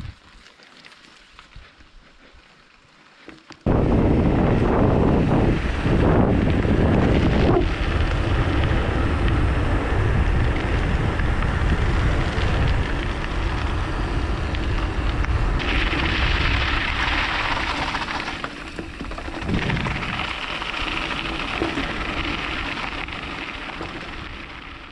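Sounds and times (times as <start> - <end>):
wind buffeting microphone: 3.6 - 24.9.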